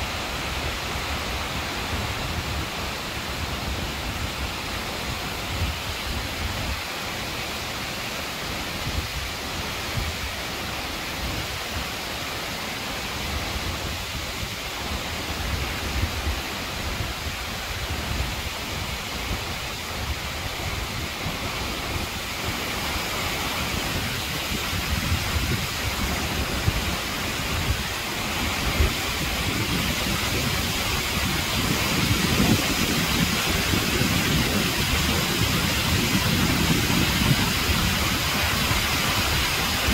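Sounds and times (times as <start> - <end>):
waterfall splashing on rocks: 0.0 - 39.9.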